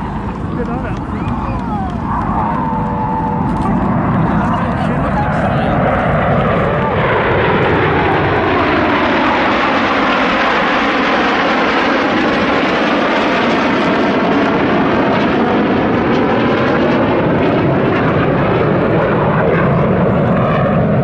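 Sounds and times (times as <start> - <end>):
jets flying past: 0.0 - 21.0.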